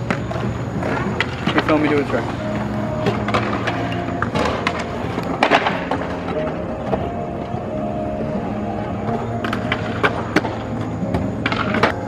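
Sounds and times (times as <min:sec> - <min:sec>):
skate wheels rolling: 0:00.0 - 0:12.0.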